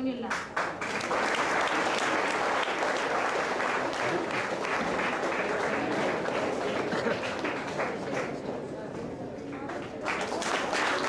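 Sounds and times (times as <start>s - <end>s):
audience clapping: 0.2s - 11.0s.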